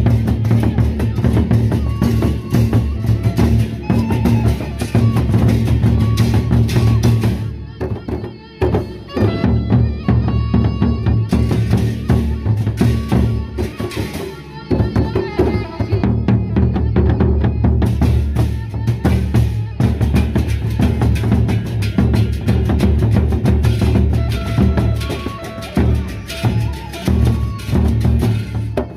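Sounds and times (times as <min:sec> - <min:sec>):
barrel drums beating: 0:00.0 - 0:28.9
ringing metal percussion: 0:00.0 - 0:28.9.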